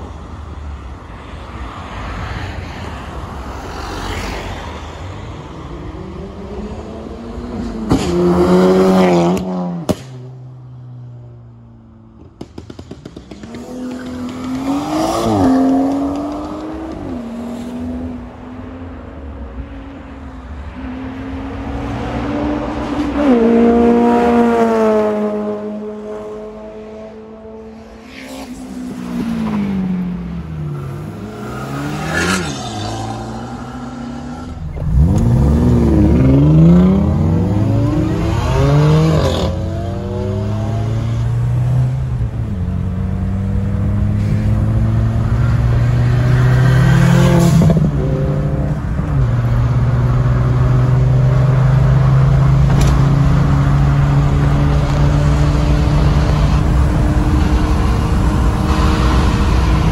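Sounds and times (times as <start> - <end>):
cars accelerating past: 2.2 - 10.2, 12.4 - 18.9, 19.9 - 59.9.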